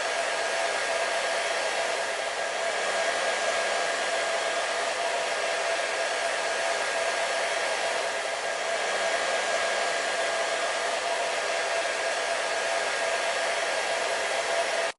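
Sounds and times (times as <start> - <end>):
hair dryer blowing air: 0.0 - 14.9.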